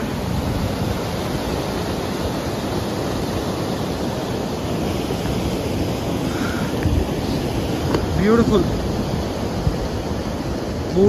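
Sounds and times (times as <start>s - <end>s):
mountain stream rushing: 0.0s - 11.0s
wind buffeting microphone: 0.0s - 11.0s.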